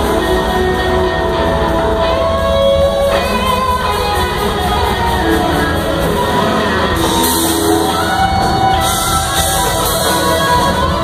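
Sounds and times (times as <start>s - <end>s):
electric guitar lead notes: 0.0s - 11.0s
live blues-rock band playing: 0.0s - 11.0s.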